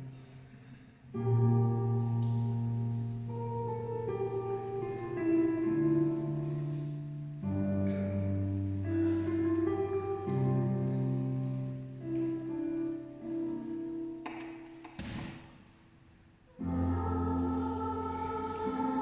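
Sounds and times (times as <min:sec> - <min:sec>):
piano playing slow chords: 0:00.0 - 0:14.8, 0:16.5 - 0:19.0.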